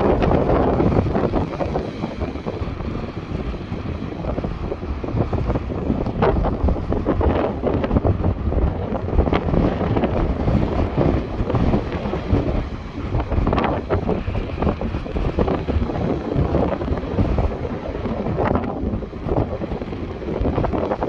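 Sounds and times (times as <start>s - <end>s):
sea waves breaking: 0.0s - 21.0s
wind rumble on microphone: 0.0s - 21.0s.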